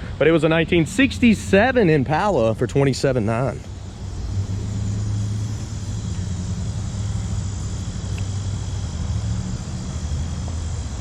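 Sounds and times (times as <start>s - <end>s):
faint high hiss: 0.0s - 11.0s
low mechanical hum: 0.0s - 11.0s.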